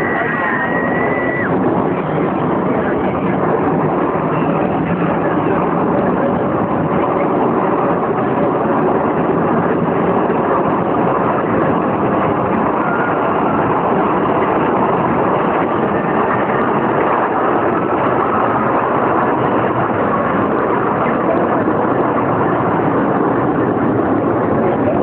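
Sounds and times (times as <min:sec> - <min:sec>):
aircraft engines roaring: 0:00.0 - 0:25.0.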